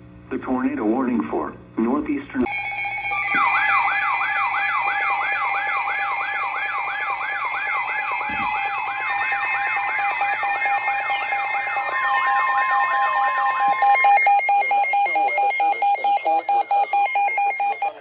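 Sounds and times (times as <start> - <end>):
steady alarm tones: 2.4 - 18.0
steady high tone: 2.4 - 18.0
falling siren sweep: 2.5 - 18.0.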